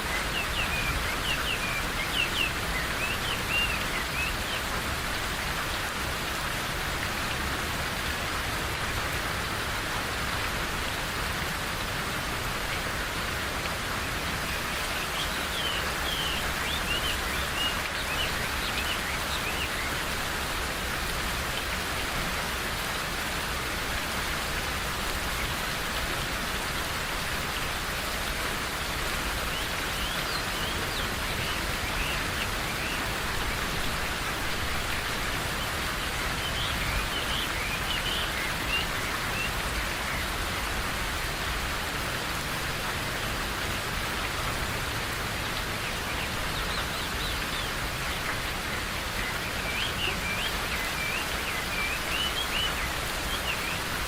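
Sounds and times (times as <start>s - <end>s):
rain falling in a forest: 0.0s - 54.0s.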